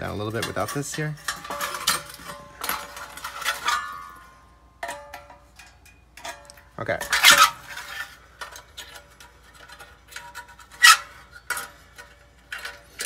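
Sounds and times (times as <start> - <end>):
small metallic clicks and scraping: 0.0 - 13.0.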